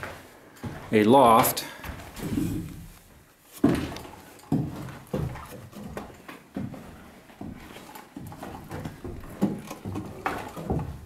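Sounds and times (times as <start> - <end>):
boots thumping on wooden boards: 0.0 - 11.0.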